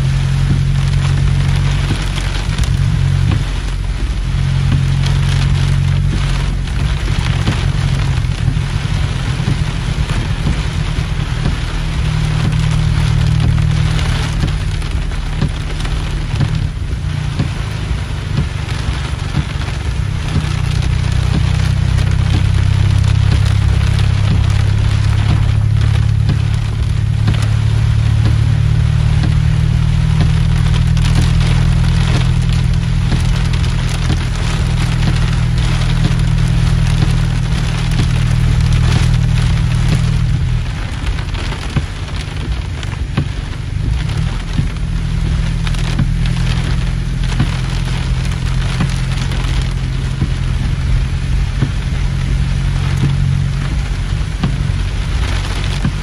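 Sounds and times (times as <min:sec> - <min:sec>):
heavy rain on car roof: 0:00.0 - 0:56.0
steady low rumble: 0:00.0 - 0:56.0.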